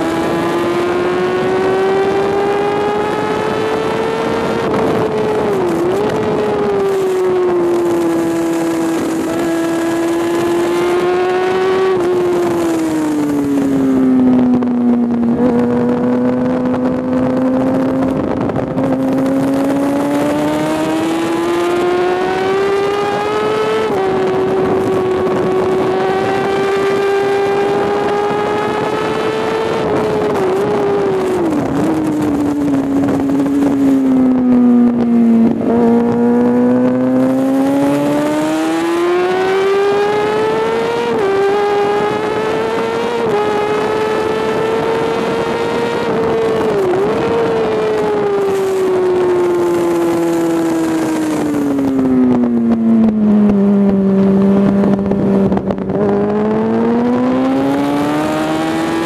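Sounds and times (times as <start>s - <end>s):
motorcycle engine at high revs: 0.0s - 59.0s
wind rush on camera: 0.0s - 59.0s.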